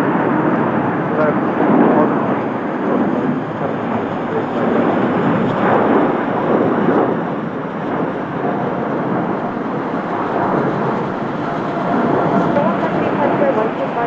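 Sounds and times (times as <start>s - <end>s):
jet engine rumble: 0.0s - 14.0s.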